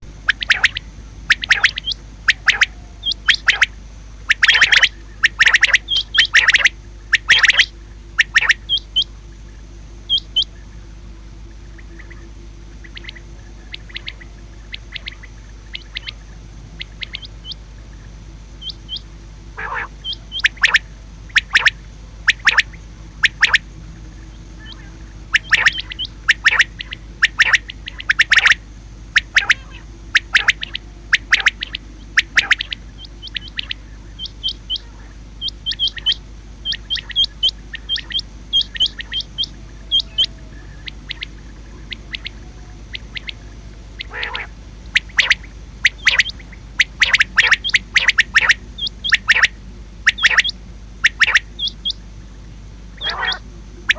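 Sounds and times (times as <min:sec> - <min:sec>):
quail calling: 0:00.0 - 0:10.6, 0:11.6 - 0:52.1, 0:52.9 - 0:53.9.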